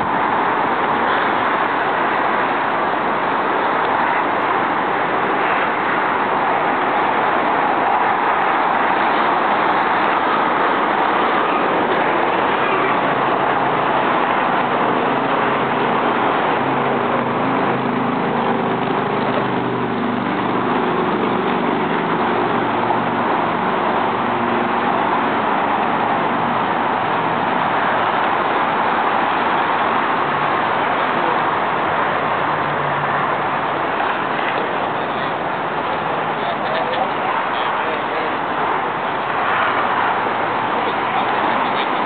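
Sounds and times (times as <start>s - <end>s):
car engines running: 0.0s - 42.0s
traffic noise: 0.0s - 42.0s.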